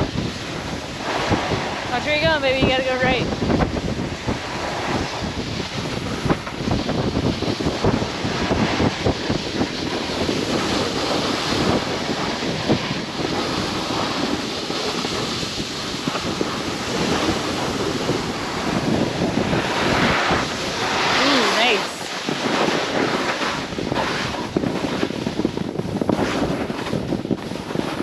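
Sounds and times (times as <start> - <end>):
snowboard scraping through snow: 0.0 - 28.0
wind on microphone: 0.0 - 28.0.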